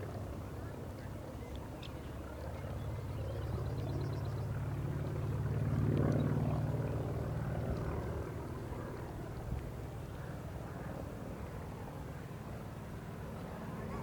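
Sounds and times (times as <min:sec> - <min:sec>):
propeller plane passing overhead: 0:00.0 - 0:14.0.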